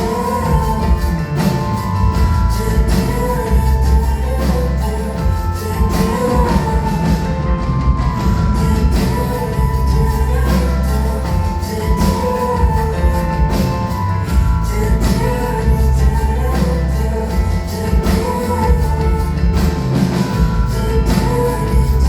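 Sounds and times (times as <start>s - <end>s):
heavy bass: 0.0s - 22.0s
live band music: 0.0s - 22.0s
steady drum beat: 0.0s - 22.0s
woman singing: 0.0s - 22.0s.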